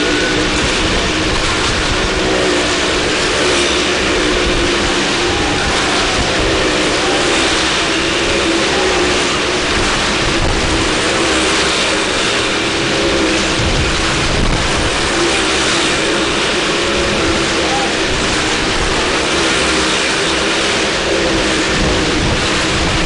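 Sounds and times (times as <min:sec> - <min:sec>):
car engines at high revs: 0:00.0 - 0:23.0.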